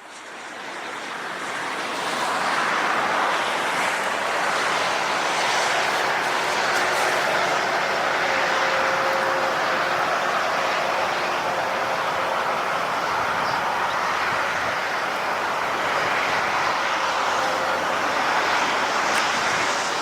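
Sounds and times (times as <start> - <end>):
river floodwater rushing: 1.0 - 20.0.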